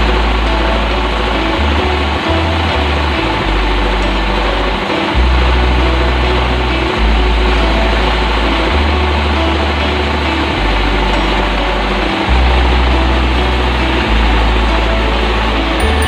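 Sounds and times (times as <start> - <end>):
background music with bass: 0.0 - 16.0.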